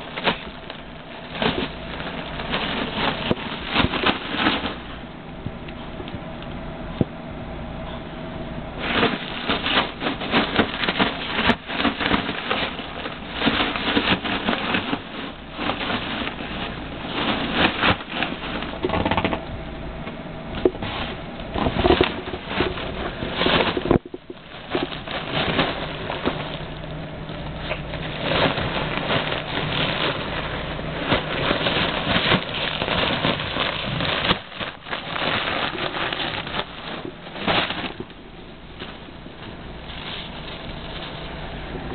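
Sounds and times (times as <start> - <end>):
dog biting crinkling balloon: 0.0 - 5.0, 8.8 - 19.4, 20.5 - 41.9.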